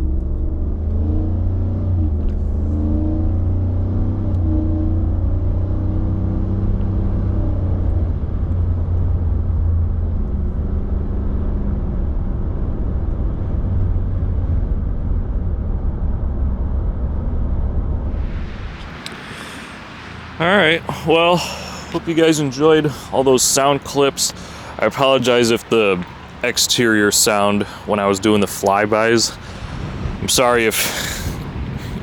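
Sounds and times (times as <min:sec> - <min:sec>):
truck engine running: 0:00.0 - 0:32.0
wind buffeting microphone: 0:05.6 - 0:32.0.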